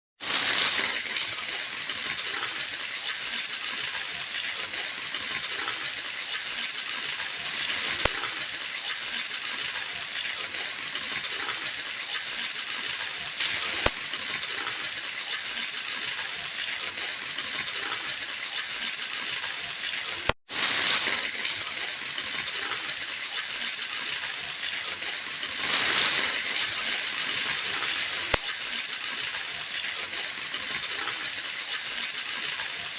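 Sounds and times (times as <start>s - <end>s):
onions sizzling in oil: 0.2s - 32.9s.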